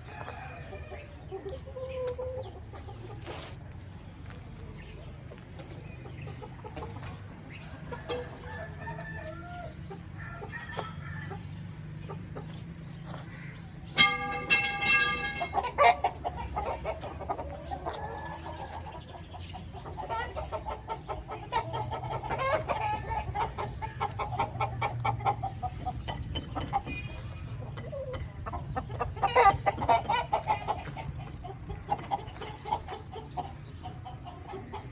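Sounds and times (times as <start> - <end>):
rooster clucking: 5.6 - 34.9.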